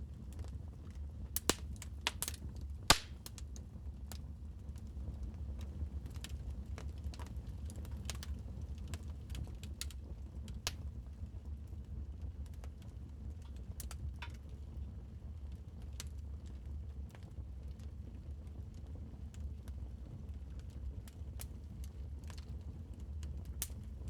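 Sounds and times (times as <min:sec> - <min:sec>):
wood fire crackling: 0:00.1 - 0:24.0.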